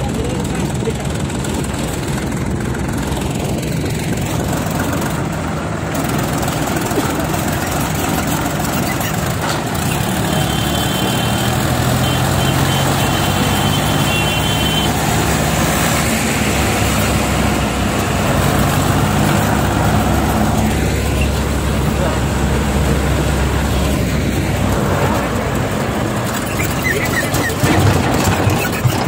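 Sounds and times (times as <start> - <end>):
tractor diesel engine running: 0.0 - 29.0
truck engine: 0.0 - 29.0.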